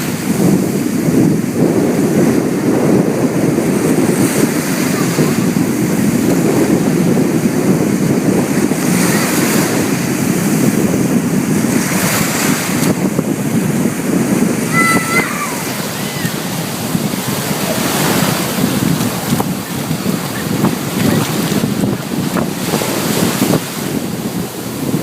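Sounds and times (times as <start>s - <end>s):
waves washing and breaking: 0.0s - 25.0s
wind buffeting the microphone: 0.0s - 25.0s.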